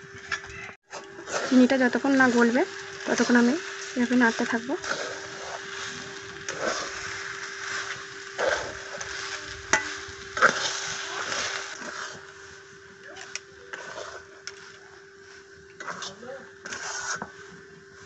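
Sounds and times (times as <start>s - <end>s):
faint steady hum: 0.0s - 18.0s
metal spatula scraping a pan: 0.9s - 12.4s, 13.7s - 17.6s.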